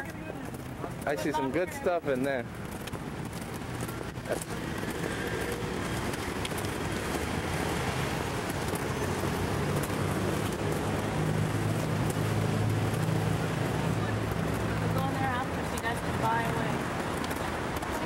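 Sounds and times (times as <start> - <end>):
cars passing: 0.0 - 18.0
low vehicle engine hum: 0.0 - 18.0.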